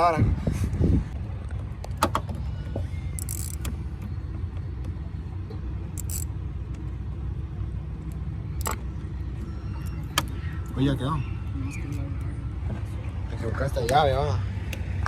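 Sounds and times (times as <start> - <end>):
vehicle engine idling: 0.7 - 15.0.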